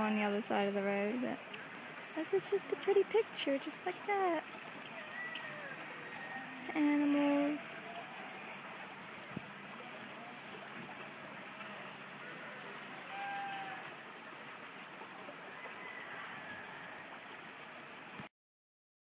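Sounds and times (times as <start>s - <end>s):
outdoor background hiss: 0.0s - 18.3s.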